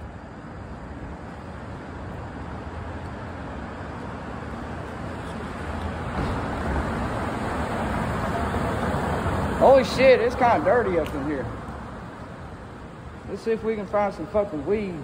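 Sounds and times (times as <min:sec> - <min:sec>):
bicycle tyres on concrete: 0:00.0 - 0:14.4.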